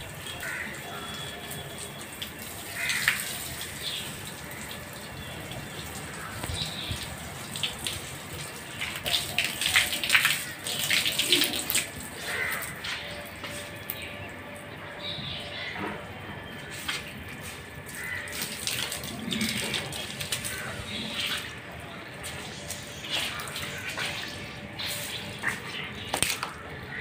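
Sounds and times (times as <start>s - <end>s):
water splashing on plants: 0.0s - 14.7s, 16.6s - 27.0s.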